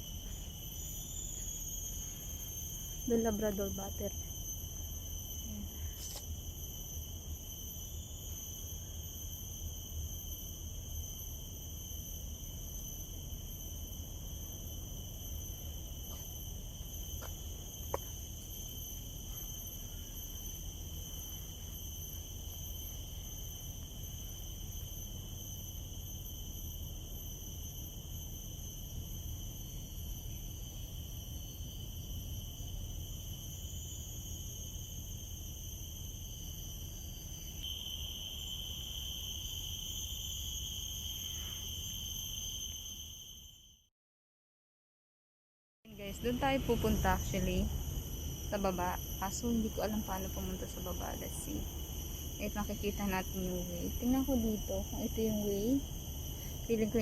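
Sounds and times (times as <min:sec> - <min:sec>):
insects chorus: 0:00.0 - 0:43.9, 0:45.9 - 0:57.0.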